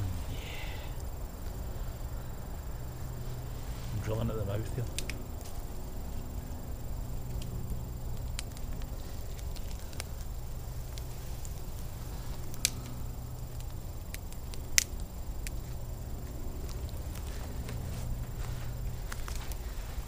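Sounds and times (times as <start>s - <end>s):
campfire crackling and popping: 0.0s - 20.0s
steady low hum: 0.0s - 20.0s.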